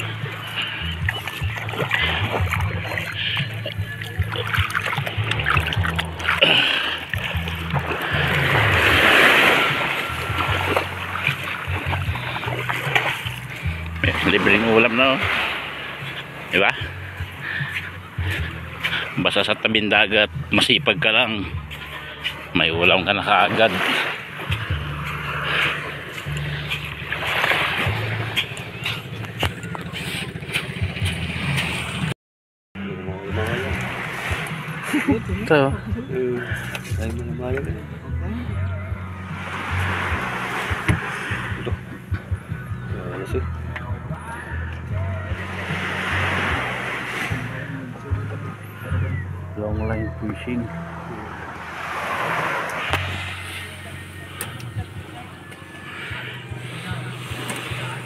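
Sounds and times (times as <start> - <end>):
sea waves lapping on beach: 0.0 - 32.1, 32.8 - 49.6, 50.3 - 58.0
low engine hum: 0.0 - 32.2, 32.8 - 58.0.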